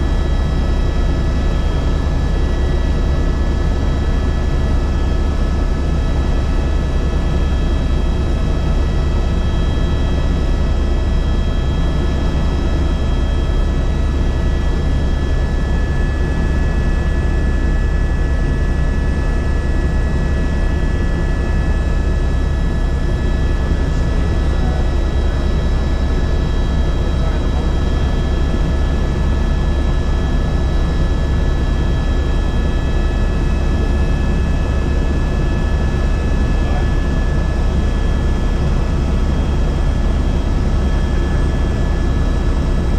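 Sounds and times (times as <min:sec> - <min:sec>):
helicopter high whine: 0:00.0 - 0:42.9
helicopter rumble: 0:00.0 - 0:42.9.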